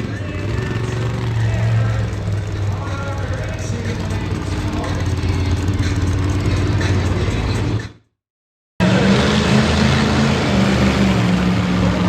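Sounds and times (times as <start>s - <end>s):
monster truck engine running: 0.0s - 8.1s, 8.8s - 12.0s.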